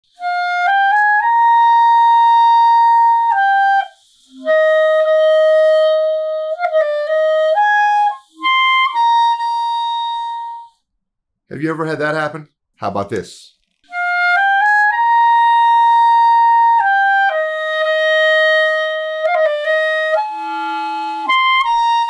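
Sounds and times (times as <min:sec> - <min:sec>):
clarinet playing sustained notes: 0:00.1 - 0:10.8, 0:13.9 - 0:22.0.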